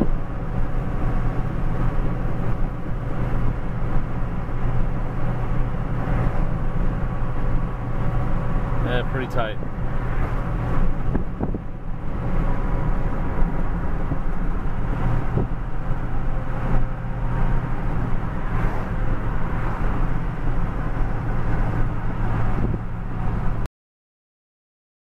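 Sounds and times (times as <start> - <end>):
truck engine drone: 0.0 - 23.7
tyre and road noise: 0.0 - 23.7.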